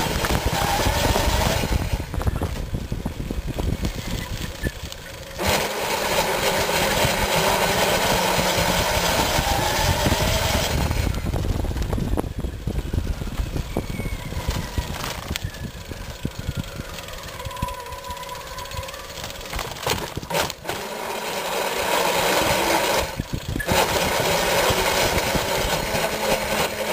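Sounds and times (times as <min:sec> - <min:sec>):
wheels rumbling on road: 0:00.0 - 0:26.9.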